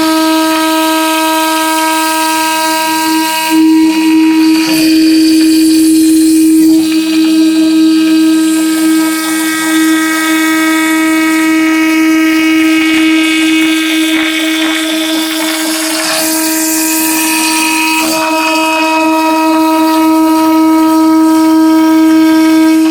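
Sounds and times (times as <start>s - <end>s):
end mill cutting wood: 0.0s - 22.9s
router spindle whine: 0.0s - 22.9s.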